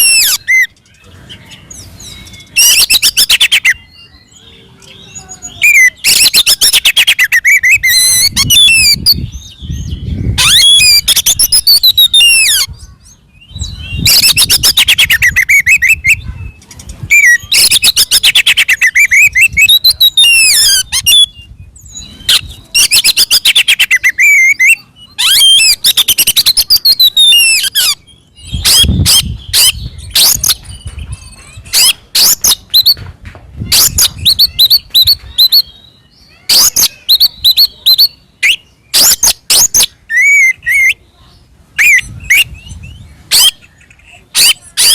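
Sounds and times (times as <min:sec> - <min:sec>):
bird singing trills: 0:00.0 - 0:33.0, 0:33.6 - 0:44.9
sharp bird notes and whistles: 0:00.0 - 0:33.0, 0:33.7 - 0:44.9.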